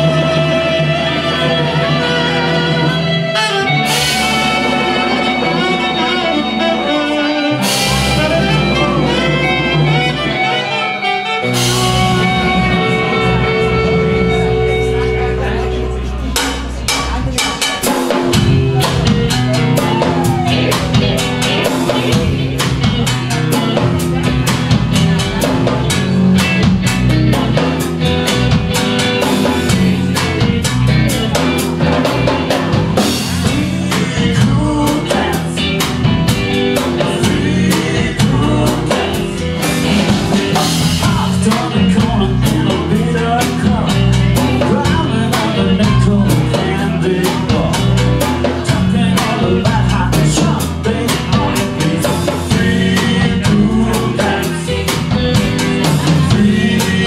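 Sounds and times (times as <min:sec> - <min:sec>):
drum kit beat with rimshots: 0:00.0 - 0:57.0
electric guitars: 0:00.0 - 0:57.0.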